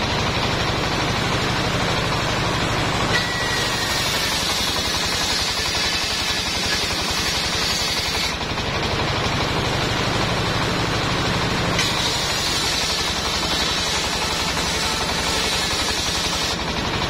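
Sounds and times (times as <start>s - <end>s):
circular saw blade cutting timber: 0.0s - 17.0s
sawmill engine running: 0.0s - 17.0s.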